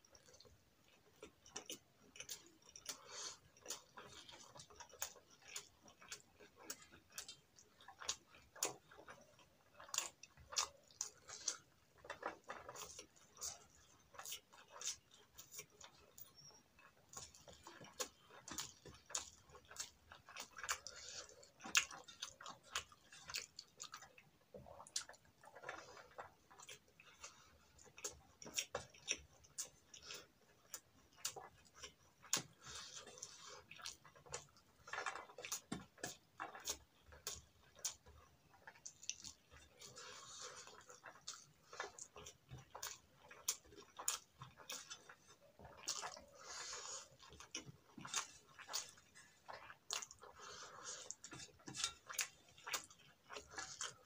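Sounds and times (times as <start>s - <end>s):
chewing with lip-smacking: 0.0s - 54.0s.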